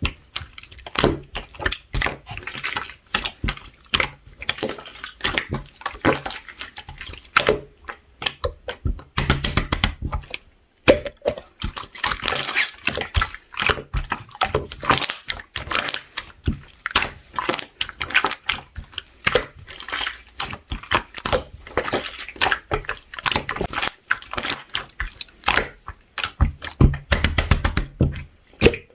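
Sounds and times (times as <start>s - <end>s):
hands squishing slime: 0.0s - 28.9s.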